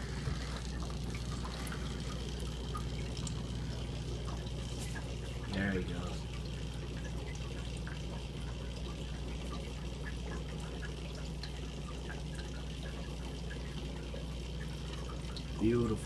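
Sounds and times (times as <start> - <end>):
aquarium water bubbling: 0.0 - 16.0
low hum of tank equipment: 0.0 - 16.0.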